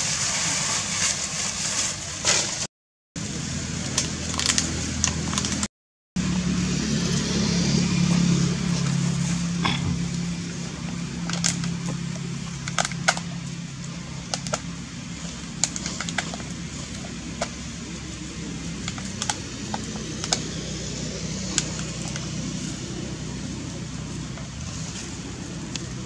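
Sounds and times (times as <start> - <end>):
steady low hum: 3.2 - 26.0.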